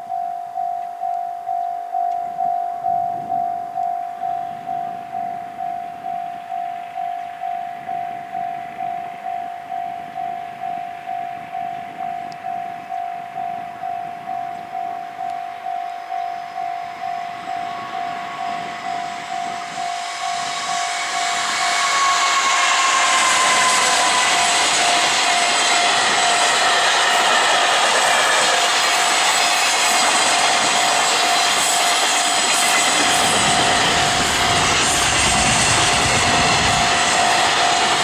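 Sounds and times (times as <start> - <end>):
level crossing warning bell ringing: 0.0 - 38.0
train passing on rails: 0.0 - 38.0.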